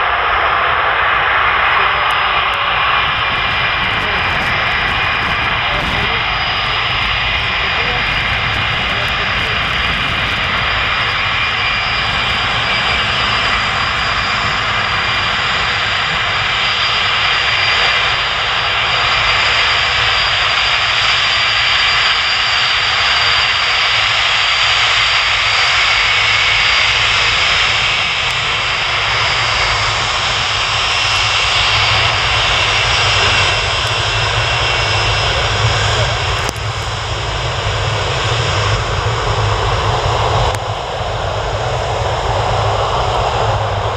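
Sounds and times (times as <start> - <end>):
jet engines whining: 0.0 - 43.9.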